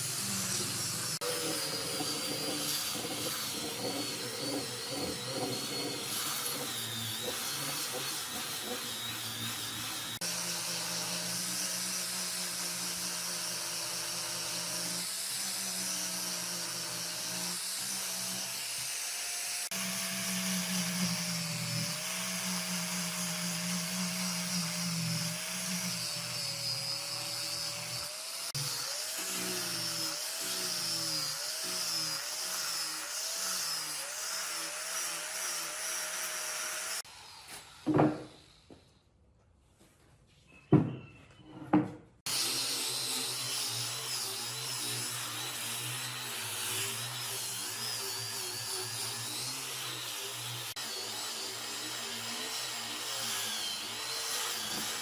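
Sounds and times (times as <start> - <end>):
power tool cutting wood: 0.0 - 38.9, 42.2 - 55.0.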